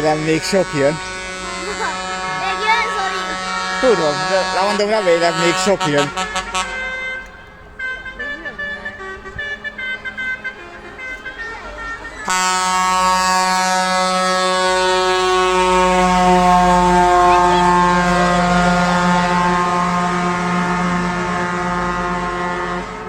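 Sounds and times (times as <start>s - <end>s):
truck air horn blast: 0.0s - 23.0s.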